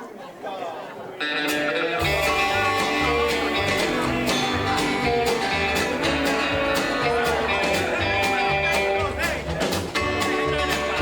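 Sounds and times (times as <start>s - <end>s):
guitar: 1.2s - 11.0s
live rockabilly band: 1.2s - 11.0s
bass line: 2.0s - 11.0s
steady drum beat: 2.0s - 11.0s.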